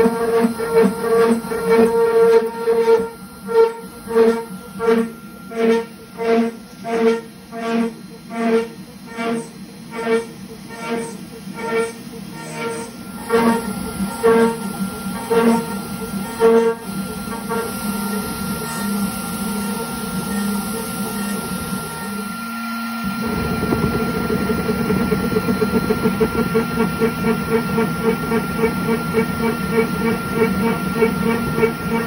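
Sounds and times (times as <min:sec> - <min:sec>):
milling machine spindle whine: 0:00.0 - 0:32.0.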